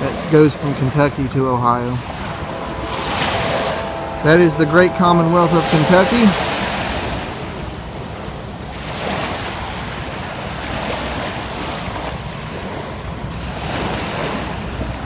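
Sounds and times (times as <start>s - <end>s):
choppy water washing at bank: 0.0s - 15.0s
wind rushing over microphone: 0.0s - 15.0s.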